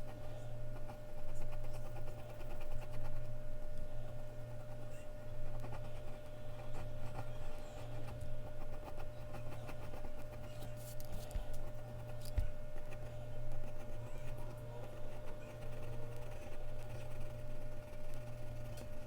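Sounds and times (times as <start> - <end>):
pencil scratching on paper: 0.0 - 3.3, 4.0 - 19.0
steady low hum: 0.0 - 19.0.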